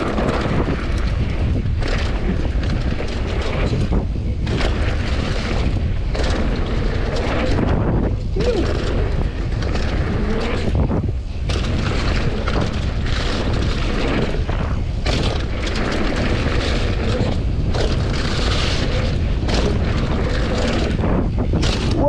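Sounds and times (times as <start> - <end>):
bike knocks and rattles: 0.0 - 22.0
bike tyres on dirt: 0.0 - 22.0
wind over microphone: 0.0 - 22.0.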